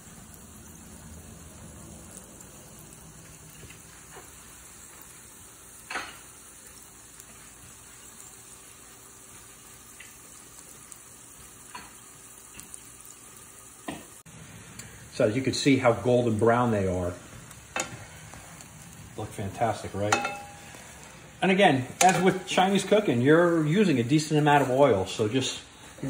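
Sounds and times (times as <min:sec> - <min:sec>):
pancakes sizzling in oil: 0:00.0 - 0:26.0.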